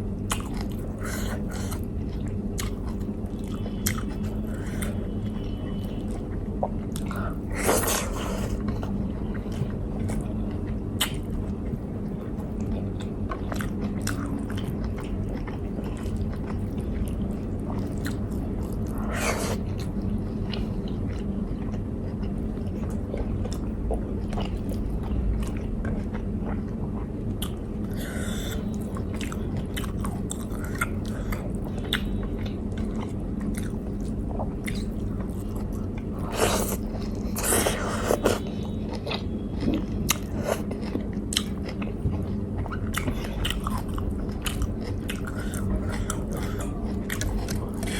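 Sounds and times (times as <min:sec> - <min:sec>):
low hum: 0:00.0 - 0:47.9
chewing and biting food: 0:00.2 - 0:47.9.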